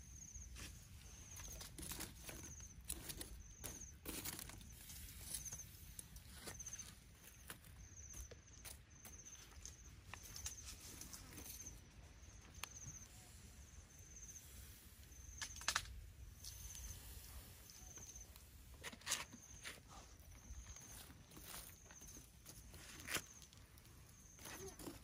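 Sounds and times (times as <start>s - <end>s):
faint outdoor ambience: 0.0s - 25.0s.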